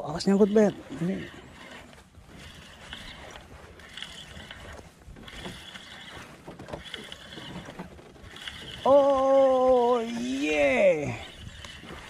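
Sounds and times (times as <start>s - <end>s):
fishing reel gears whirring: 0.0s - 12.0s.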